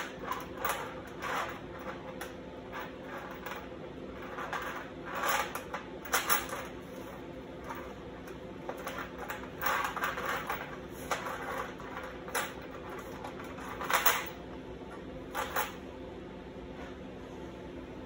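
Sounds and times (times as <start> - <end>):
chain rattling on steel sheet: 0.0 - 14.4, 15.3 - 15.8.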